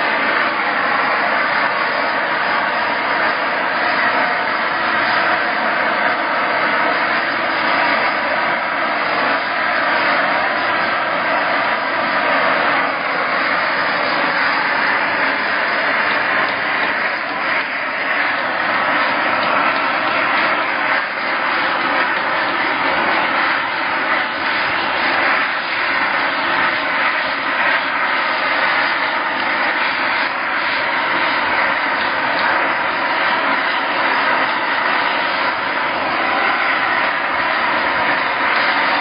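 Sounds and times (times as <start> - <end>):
machine rushing noise: 0.0 - 39.0.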